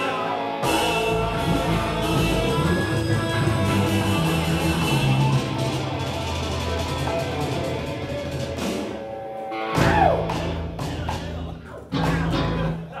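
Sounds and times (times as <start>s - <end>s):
bass guitar: 0.0s - 13.0s
electric guitars: 0.0s - 13.0s
electronic drum kit: 0.0s - 13.0s.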